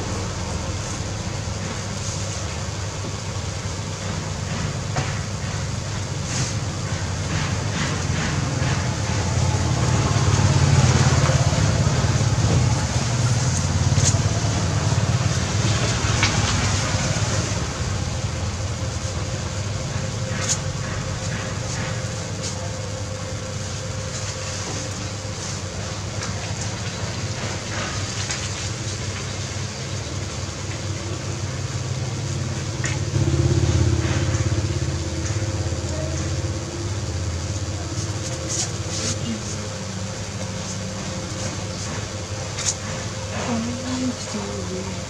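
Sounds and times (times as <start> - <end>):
rumble of passing vehicles: 0.0 - 45.0.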